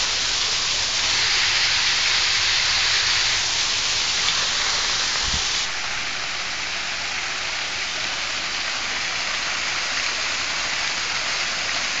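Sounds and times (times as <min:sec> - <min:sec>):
waterfall splashing onto rocks: 0:00.0 - 0:12.0.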